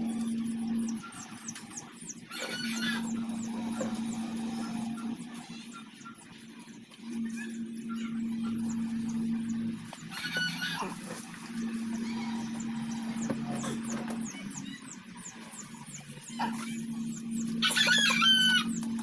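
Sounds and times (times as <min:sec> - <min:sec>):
birds chirping: 0:00.0 - 0:19.0
power steering pump whining: 0:00.0 - 0:19.0.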